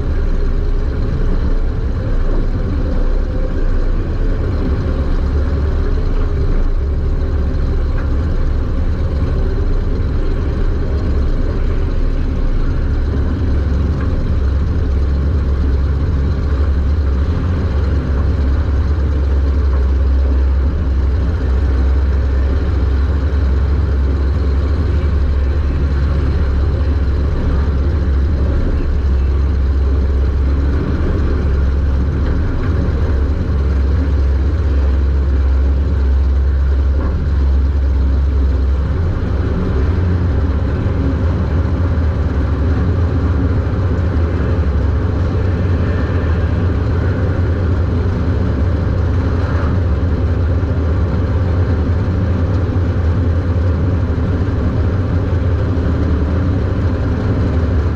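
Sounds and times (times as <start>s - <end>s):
race car engine drone: 0.0s - 57.9s.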